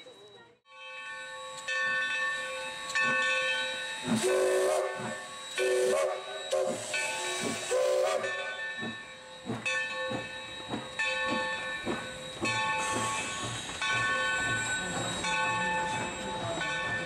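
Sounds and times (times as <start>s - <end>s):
steam locomotive hissing: 0.9s - 17.0s.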